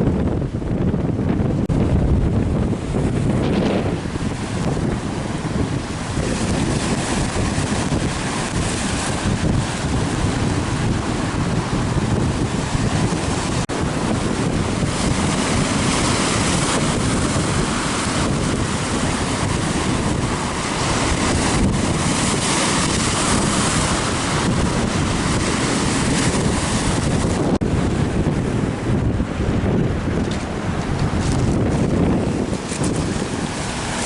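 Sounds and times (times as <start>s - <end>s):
strong wind across microphone: 0.0s - 34.0s.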